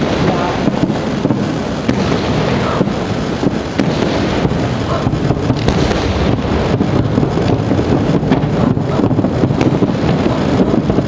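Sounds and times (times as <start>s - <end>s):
continuous low rumble: 0.0s - 11.0s
firework shells bursting: 0.0s - 11.0s.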